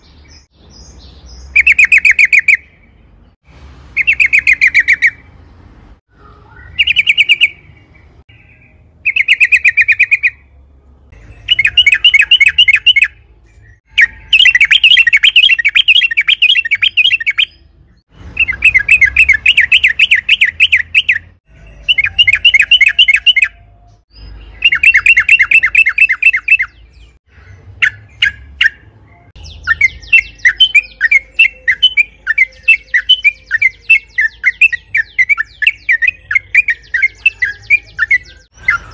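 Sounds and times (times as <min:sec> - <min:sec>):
bird singing rattling trills: 0:06.4 - 0:10.4, 0:11.1 - 0:38.9.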